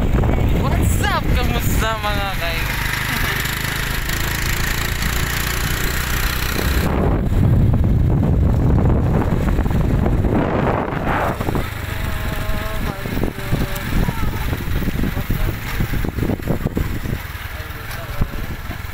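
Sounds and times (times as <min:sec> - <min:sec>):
motorcycle engine running: 0:00.0 - 0:18.9
wind buffeting microphone: 0:00.0 - 0:18.9.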